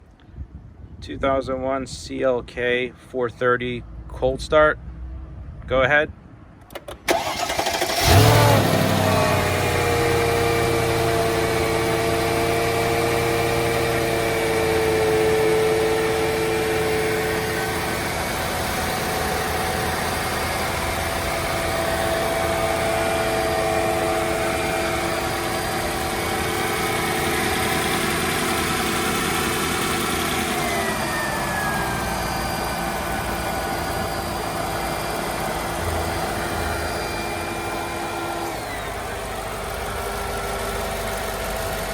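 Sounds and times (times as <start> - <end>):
engine whine: 6.5 - 41.9
car engine cold idle: 7.0 - 41.9.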